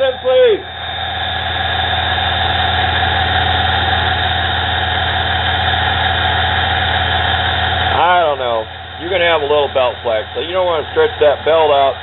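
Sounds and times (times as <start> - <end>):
mini lathe running: 0.0 - 12.0.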